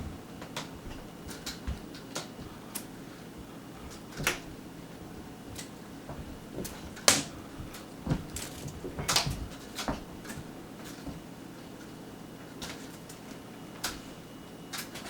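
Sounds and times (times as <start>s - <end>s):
cats pouncing and scrabbling: 0.0s - 14.1s.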